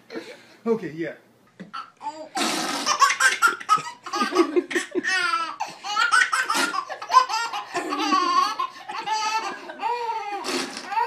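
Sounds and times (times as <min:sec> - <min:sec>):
baby laughing: 0:01.7 - 0:11.0.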